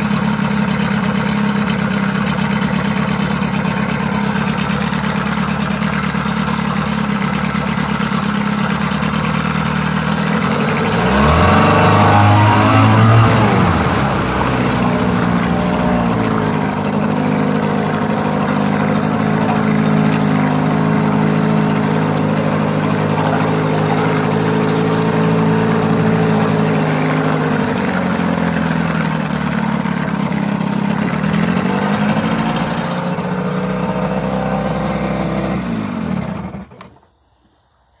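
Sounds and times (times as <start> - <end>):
outboard engine running: 0.0 - 37.1.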